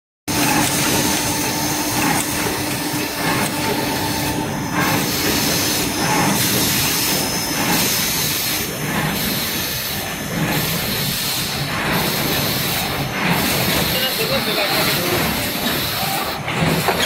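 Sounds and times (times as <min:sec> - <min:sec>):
constant machine hum: 0:00.3 - 0:17.0
machine clatter and hiss: 0:00.3 - 0:17.0.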